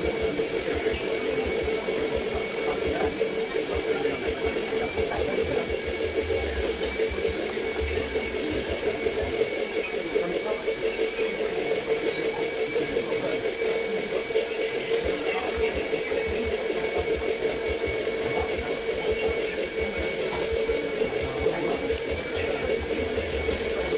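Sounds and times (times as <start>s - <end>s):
steady mechanical hum: 0.0s - 23.9s.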